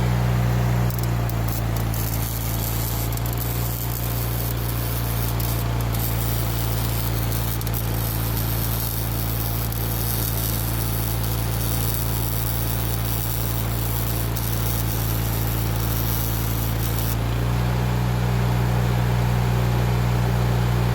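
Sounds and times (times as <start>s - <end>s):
welding machine low hum: 0.0s - 20.9s
welding arc hissing and crackling: 0.4s - 18.0s.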